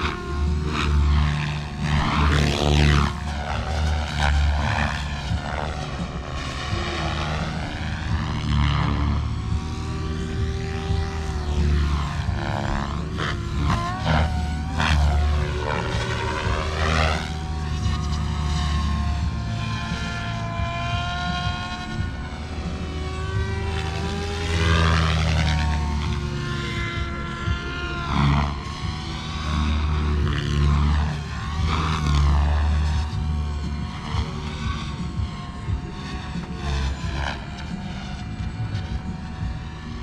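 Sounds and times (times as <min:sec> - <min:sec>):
rc helicopter motor whine: 0:00.0 - 0:40.0.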